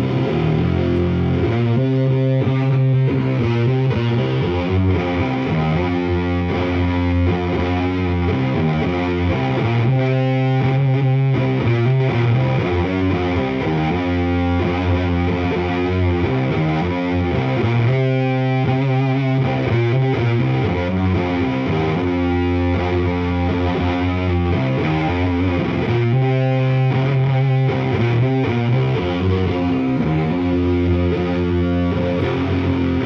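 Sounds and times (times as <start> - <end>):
distorted electric guitar riff: 0.0 - 33.0.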